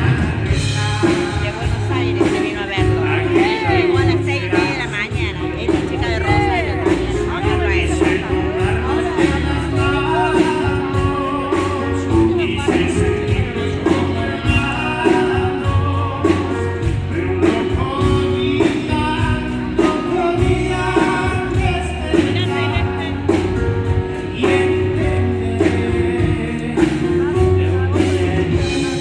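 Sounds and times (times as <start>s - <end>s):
live band music with singing: 0.0s - 29.0s.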